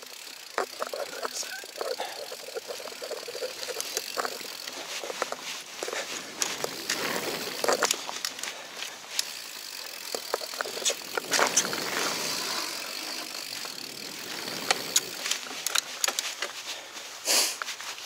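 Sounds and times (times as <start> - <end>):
bike clicks and rattles: 0.0 - 18.0
tyre noise on dirt: 0.0 - 18.0.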